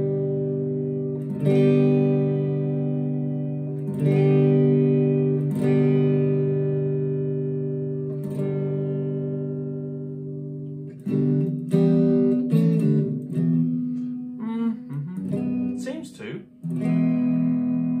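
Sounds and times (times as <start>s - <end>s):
electric guitar strummed chords: 0.0s - 18.0s.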